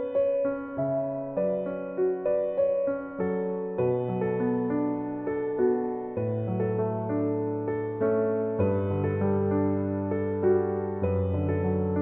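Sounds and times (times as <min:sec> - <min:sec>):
slow soft solo piano: 0:00.0 - 0:12.0.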